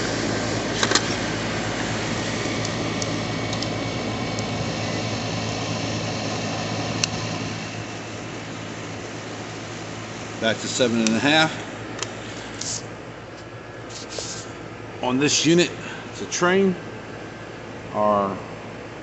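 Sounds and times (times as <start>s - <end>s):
compressor humming: 0.0s - 19.0s
fan rushing: 0.0s - 19.0s.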